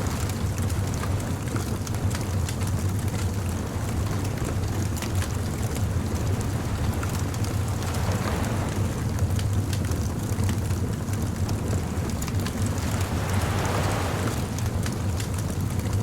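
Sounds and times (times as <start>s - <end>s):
steady low rumble: 0.0s - 16.0s
bonfire crackling and popping: 0.2s - 16.0s.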